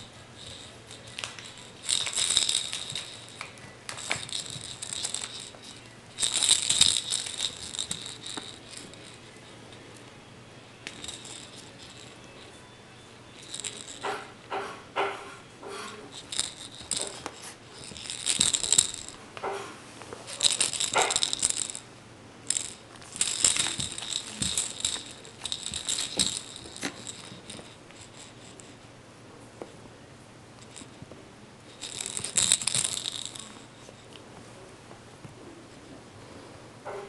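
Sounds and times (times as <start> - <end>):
dog toy rattling and scuffling: 0.0 - 10.1, 10.8 - 21.9, 22.5 - 28.8, 30.6 - 34.2.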